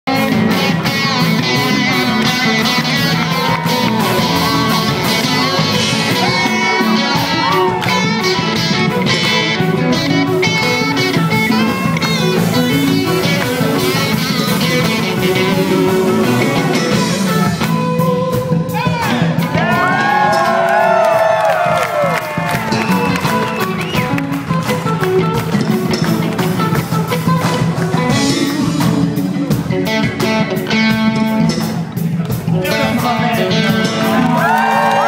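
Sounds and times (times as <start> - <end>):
live rock band playing: 0.1 - 35.0
sliding guitar line: 0.1 - 35.0.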